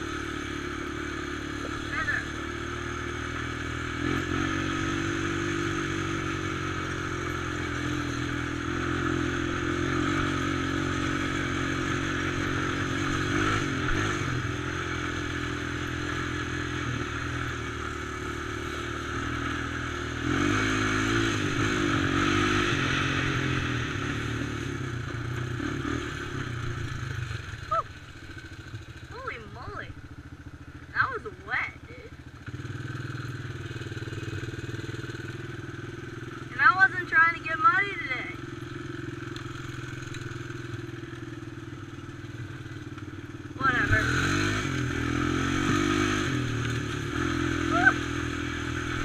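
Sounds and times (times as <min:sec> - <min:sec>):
quad engine running: 0:00.0 - 0:49.0.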